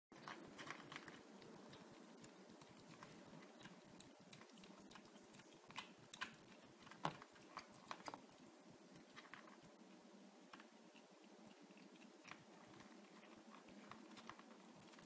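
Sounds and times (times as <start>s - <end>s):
kittens crunching kibble: 0.1s - 15.0s.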